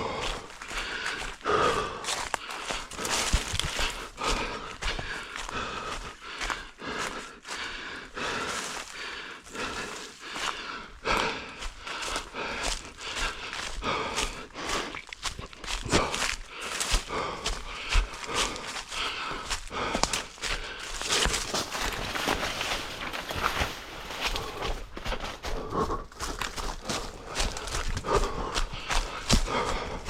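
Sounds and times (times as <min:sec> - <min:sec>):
person breathing: 0:00.0 - 0:30.0
running footsteps on forest ground: 0:00.0 - 0:30.0.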